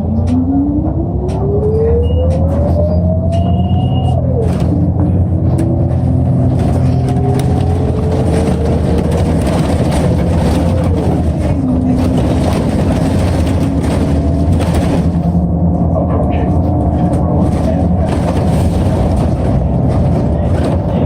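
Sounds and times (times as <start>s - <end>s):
bus whine rising in pitch: 0.0s - 20.6s
bus engine rumble: 0.0s - 21.0s.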